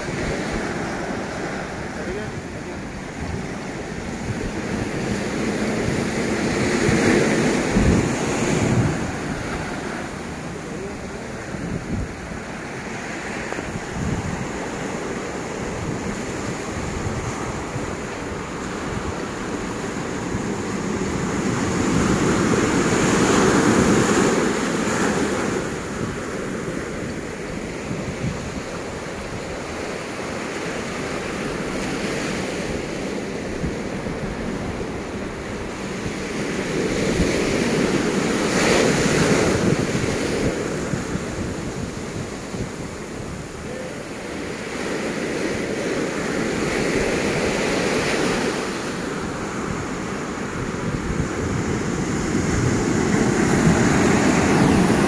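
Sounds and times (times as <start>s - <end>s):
ocean surf breaking: 0.0s - 55.0s
wind buffeting microphone: 0.0s - 55.0s.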